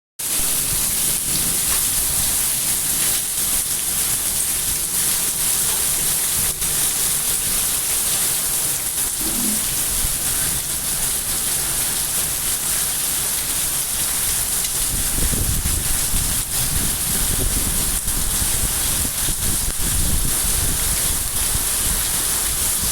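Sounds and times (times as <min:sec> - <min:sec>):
heavy rain hissing: 0:00.2 - 0:22.9
raindrops tapping surfaces: 0:00.2 - 0:22.9.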